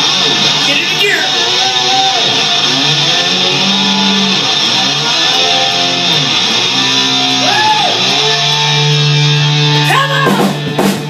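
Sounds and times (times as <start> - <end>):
slide guitar gliding in pitch: 0.0 - 10.7
sustained low guitar notes: 0.0 - 11.0.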